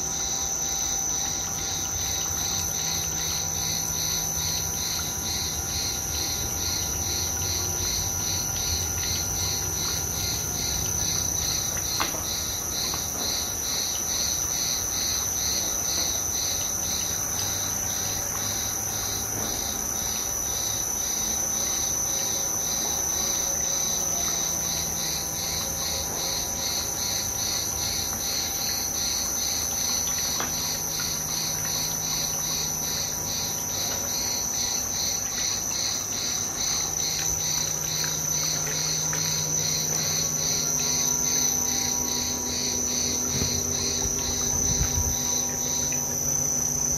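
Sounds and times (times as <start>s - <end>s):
insect chirping trill: 0.0s - 46.9s
oil press motor hum: 0.0s - 46.9s.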